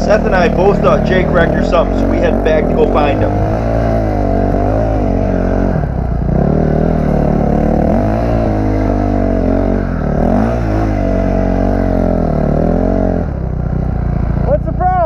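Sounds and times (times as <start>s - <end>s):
engine revving up and down: 0.0s - 14.7s.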